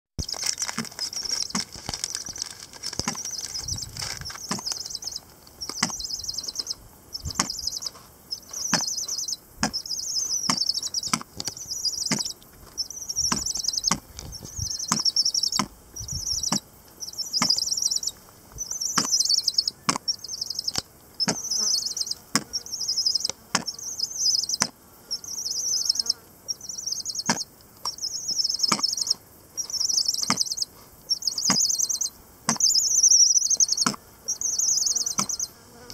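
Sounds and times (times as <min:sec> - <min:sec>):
birds pecking stony ground: 0:00.2 - 0:35.9
pulsing high insect buzz: 0:00.2 - 0:35.9.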